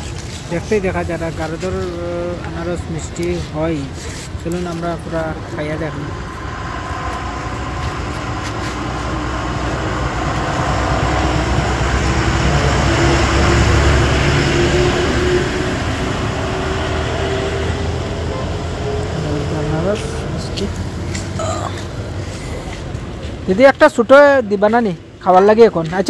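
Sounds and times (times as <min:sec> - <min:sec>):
large vehicle passing: 0:00.0 - 0:23.7.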